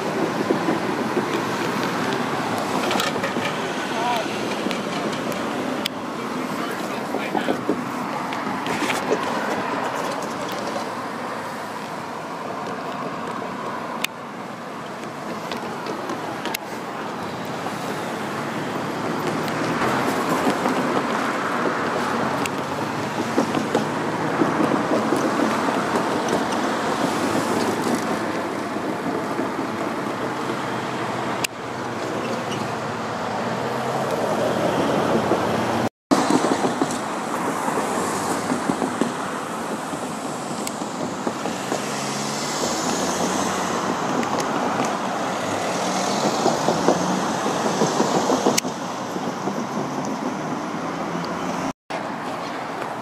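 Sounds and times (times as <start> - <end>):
cars driving past: 0.0 - 53.0.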